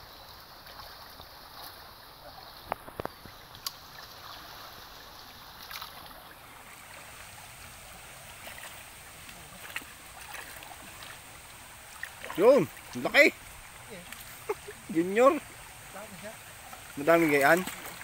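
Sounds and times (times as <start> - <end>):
stream rippling over rocks: 0.0 - 18.0.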